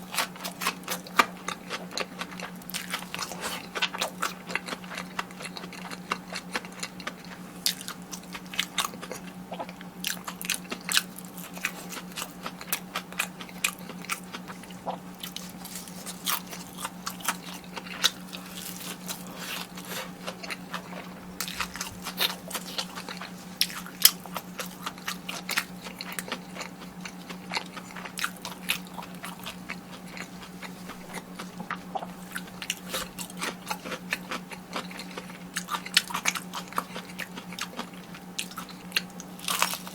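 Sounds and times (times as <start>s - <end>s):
chewing crispy food: 0.0s - 39.9s
steady low hum: 0.0s - 39.9s.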